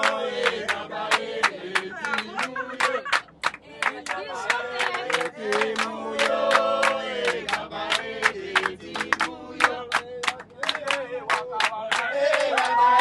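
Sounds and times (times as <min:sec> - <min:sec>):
group of people singing: 0:00.0 - 0:13.0
rhythmic hand-clapping: 0:00.0 - 0:13.0.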